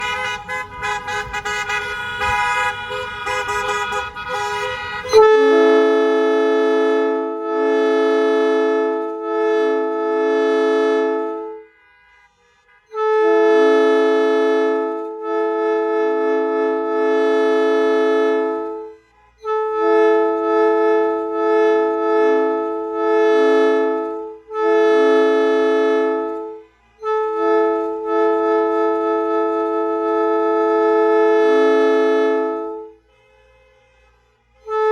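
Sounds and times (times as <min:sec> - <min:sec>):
train air horn chord blasts: 0:00.0 - 0:34.9.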